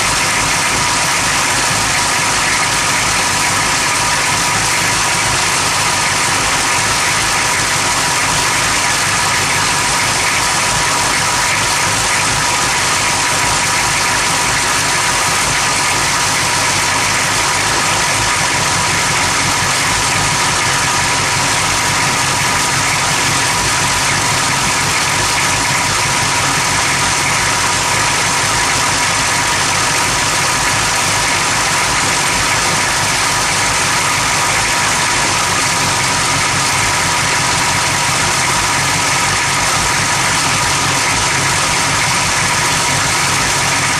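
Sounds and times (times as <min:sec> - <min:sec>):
engine idling roughly: 0:00.0 - 0:43.9.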